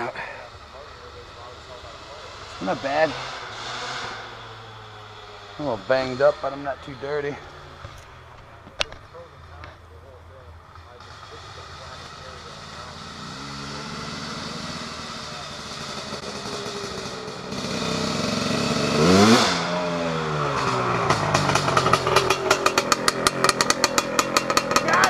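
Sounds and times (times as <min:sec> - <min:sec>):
two-stroke dirt bike engine: 0:00.0 - 0:25.0.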